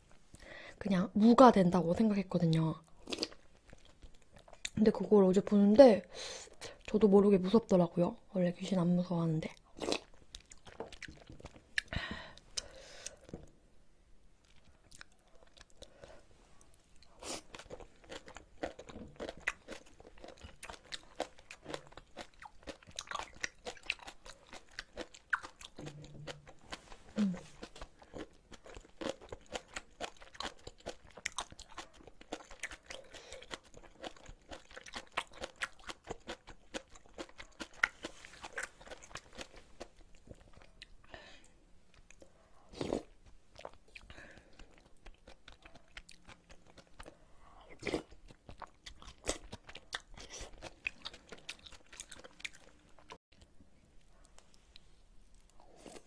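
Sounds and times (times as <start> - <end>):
person chewing: 2.9 - 4.8, 9.6 - 13.5, 14.4 - 56.0.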